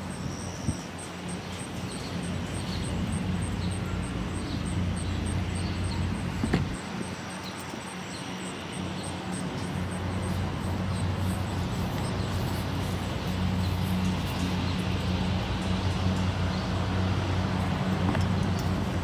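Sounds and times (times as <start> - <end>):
low engine hum: 0.0 - 19.0
outdoor background noise: 0.0 - 19.0.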